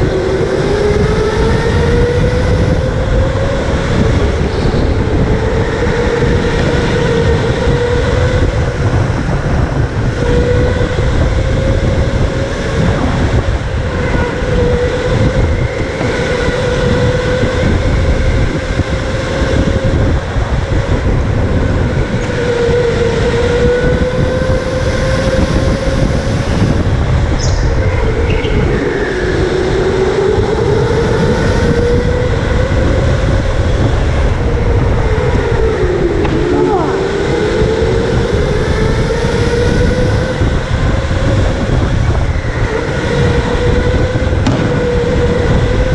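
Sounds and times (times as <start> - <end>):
heavy low rumble: 0.0 - 45.9.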